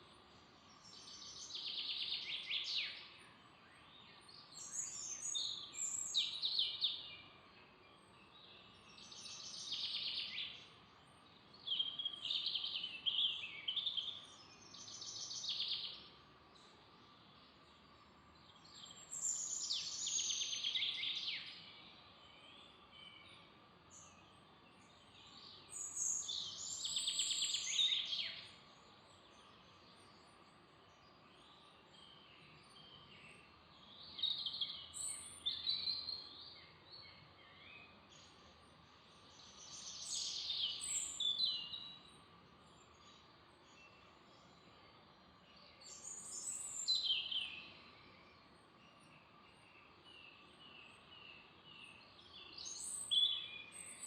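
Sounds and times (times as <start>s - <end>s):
faint steady hiss: 0.0s - 54.0s
songbirds singing: 0.0s - 54.0s.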